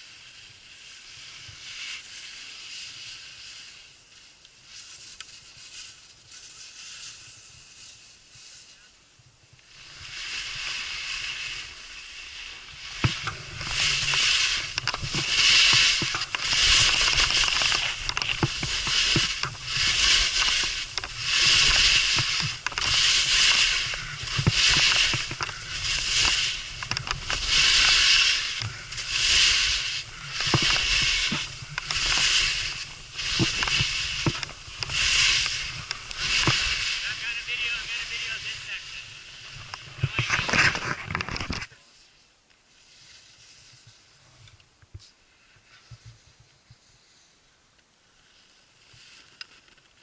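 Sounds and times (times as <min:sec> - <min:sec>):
skis scraping over snow: 0:00.0 - 0:50.0.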